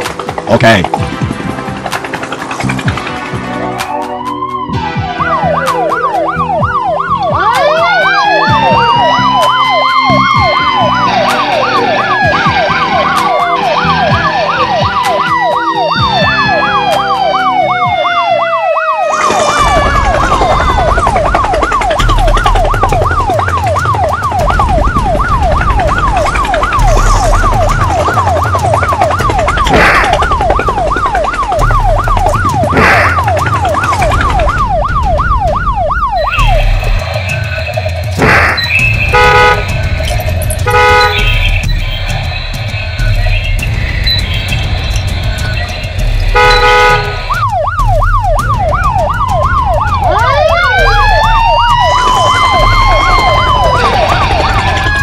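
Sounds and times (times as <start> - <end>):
fast yelping siren: 3.7 - 55.0
swooping whistle-like glides: 7.4 - 55.0.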